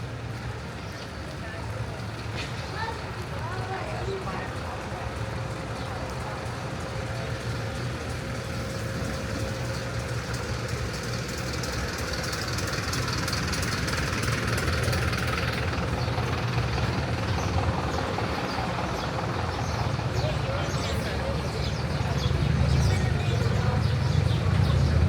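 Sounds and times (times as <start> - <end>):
vehicle engine rumbling: 4.4 - 25.0.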